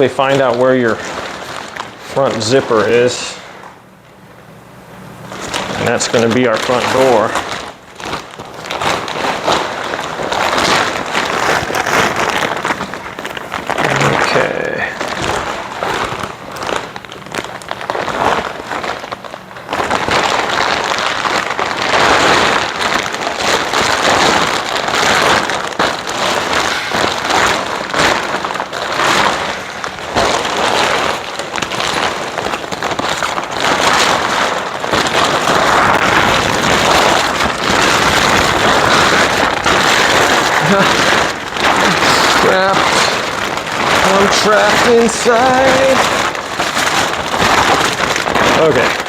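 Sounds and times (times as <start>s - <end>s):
plastic cover rustling and crinkling: 0.0s - 49.0s.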